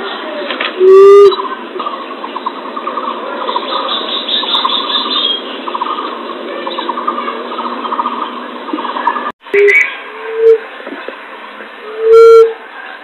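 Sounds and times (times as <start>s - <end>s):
small birds chattering trills: 1.3s - 13.0s.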